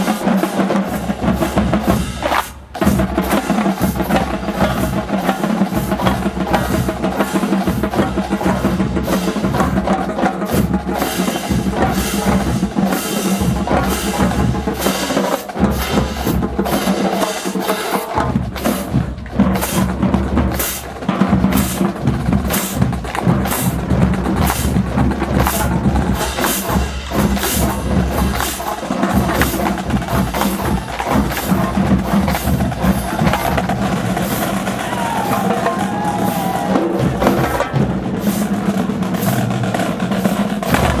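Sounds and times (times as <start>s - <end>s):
drumline playing fast cadence: 0.0s - 41.0s.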